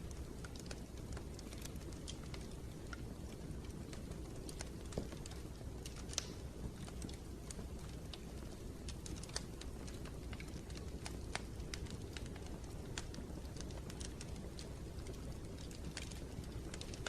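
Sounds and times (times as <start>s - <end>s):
fire pops and clicks: 0.0s - 17.0s
low rumble of flames: 0.0s - 17.0s
wood fire crackling: 0.0s - 17.0s.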